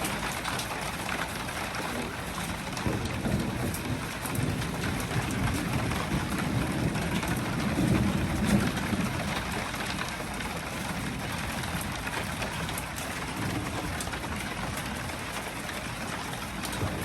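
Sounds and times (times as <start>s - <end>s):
distant thunder rumble: 0.0s - 17.0s
steady rain falling: 0.0s - 17.0s.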